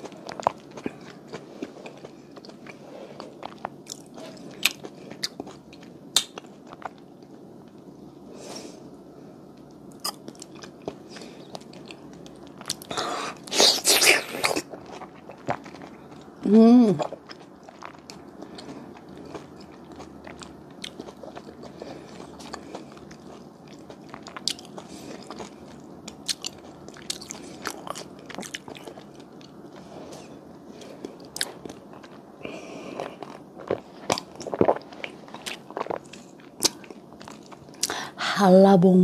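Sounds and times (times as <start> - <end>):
close chewing mouth sounds: 0.0 - 7.0, 9.9 - 38.0.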